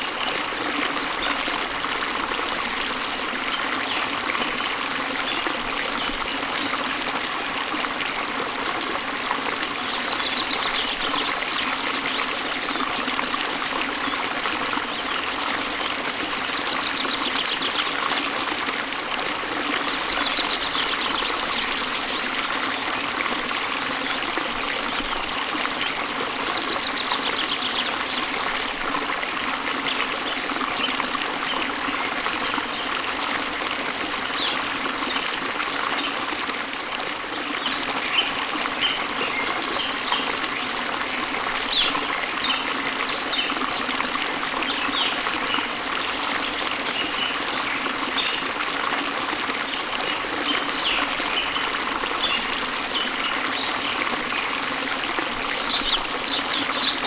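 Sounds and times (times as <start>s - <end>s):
waterfall running: 0.0s - 57.0s.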